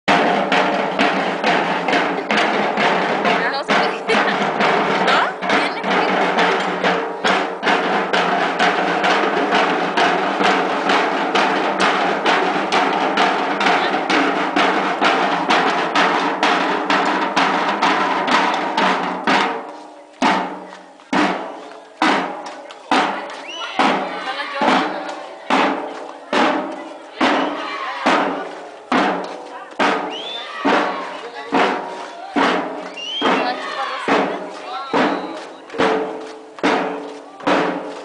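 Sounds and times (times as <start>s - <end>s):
marching drum line: 0.0s - 38.0s.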